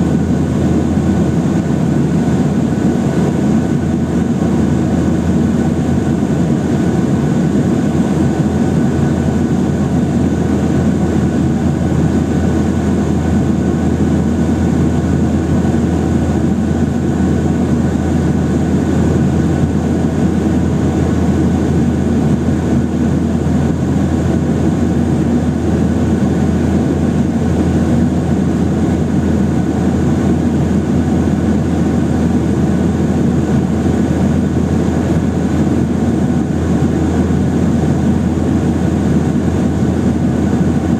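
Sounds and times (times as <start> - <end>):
jet engines rumbling in cabin: 0.0 - 40.9.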